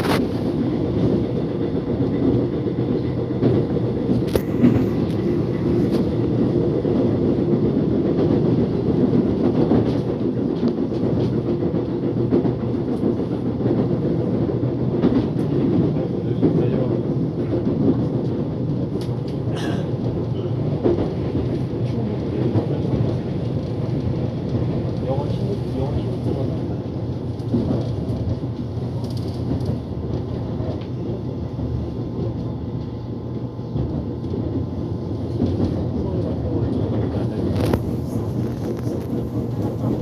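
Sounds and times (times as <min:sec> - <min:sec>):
subway train wheels rumbling on rail: 0:00.0 - 0:40.0.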